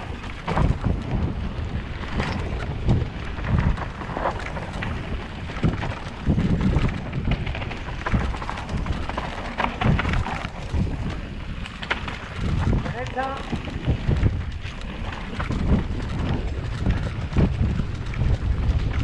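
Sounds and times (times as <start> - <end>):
bike knocking and rattling: 0.0 - 19.0
bike tyre noise on dirt: 0.0 - 19.0
wind buffeting microphone: 0.0 - 19.0.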